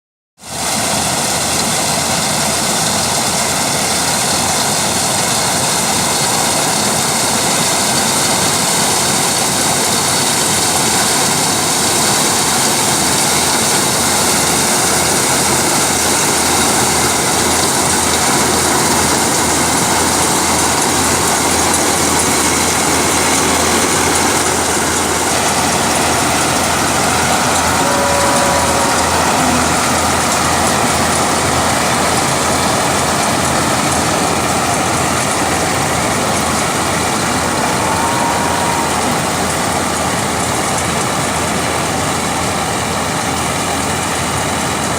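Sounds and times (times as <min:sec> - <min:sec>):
combine harvester engine drone: 0:00.4 - 0:44.9.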